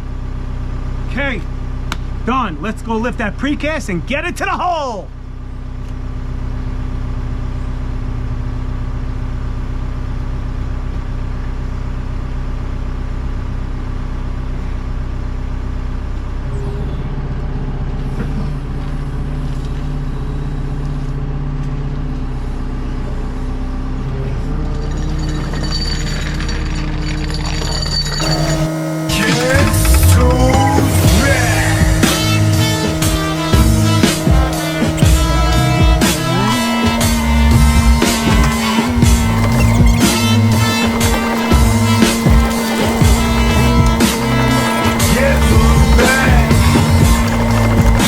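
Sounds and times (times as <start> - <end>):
diesel digger engine running: 0.0 - 48.0.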